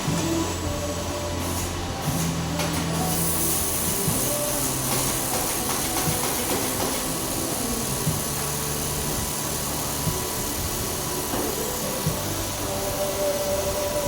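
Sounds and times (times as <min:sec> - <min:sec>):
laser welder hiss: 0:00.0 - 0:14.0
low machine hum: 0:00.0 - 0:14.0.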